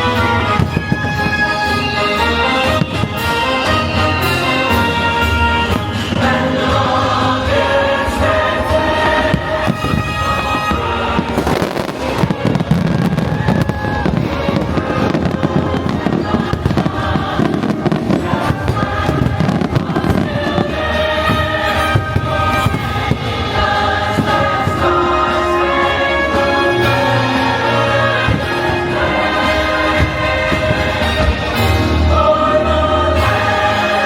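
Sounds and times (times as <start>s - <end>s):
fireworks bursting: 0.0s - 34.0s
music with choir singing: 0.0s - 34.0s.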